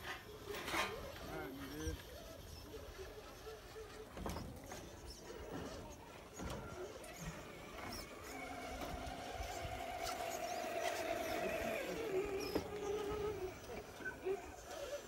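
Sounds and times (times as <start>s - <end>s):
electric motor whining: 1.0s - 15.0s.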